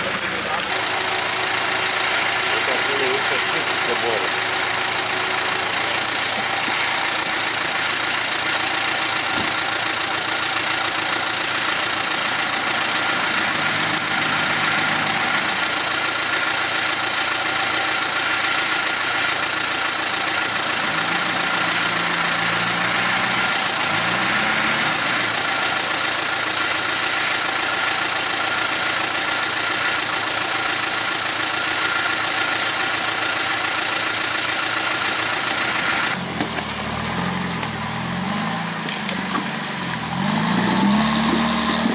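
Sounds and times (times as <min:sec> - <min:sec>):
car engine at low revs: 0:00.0 - 0:41.9.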